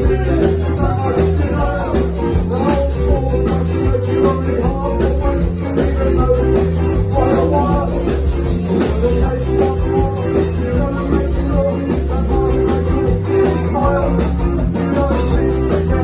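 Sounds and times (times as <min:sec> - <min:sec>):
drum beat: 0:00.0 - 0:16.0
live band playing: 0:00.0 - 0:16.0
man singing lead vocal: 0:00.0 - 0:16.0.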